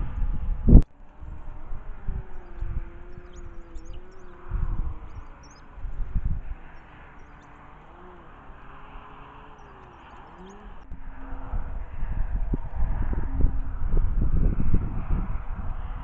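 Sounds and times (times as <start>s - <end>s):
songbirds chirping: 0.0s - 12.9s
wind buffeting microphone: 0.0s - 16.0s.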